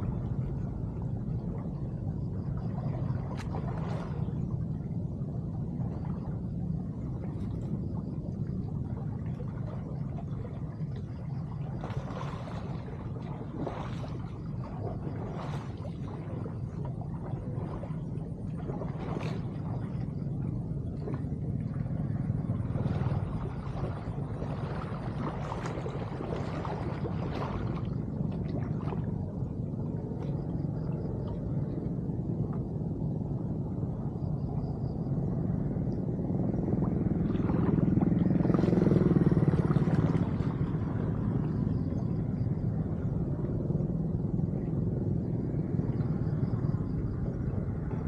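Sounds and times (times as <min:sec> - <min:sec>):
splashing from wading: 0:00.0 - 0:31.9, 0:36.7 - 0:43.6
water rumbling into culvert: 0:00.0 - 0:48.0.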